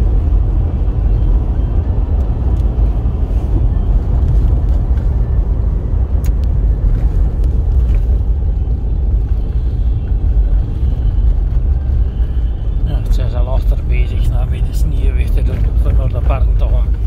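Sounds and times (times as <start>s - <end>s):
vehicle engine and tyre noise: 0.0s - 17.0s.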